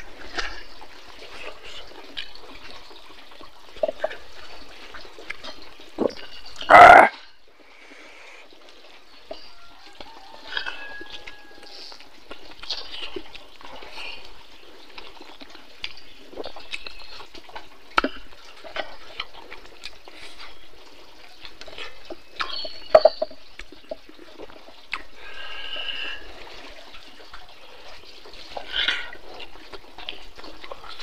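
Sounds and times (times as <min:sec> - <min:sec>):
wet chewing and lip-smacking: 0:00.0 - 0:06.7, 0:08.5 - 0:31.0.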